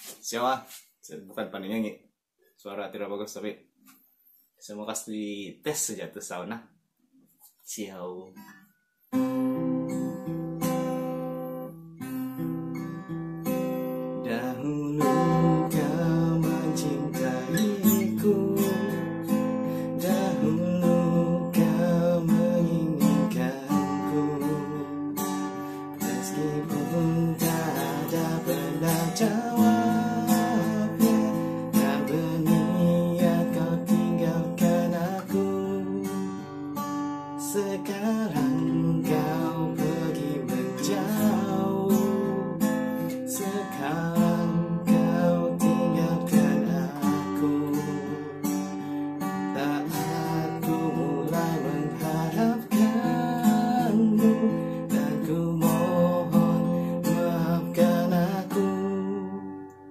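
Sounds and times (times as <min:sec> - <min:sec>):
acoustic guitar strumming: 0:08.4 - 0:59.9.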